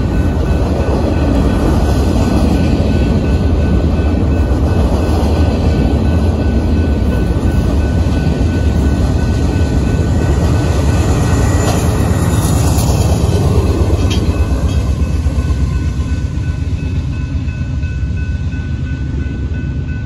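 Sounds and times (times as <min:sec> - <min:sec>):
freight train wheels rumbling: 0:00.0 - 0:20.0
locomotives passing: 0:00.0 - 0:20.0.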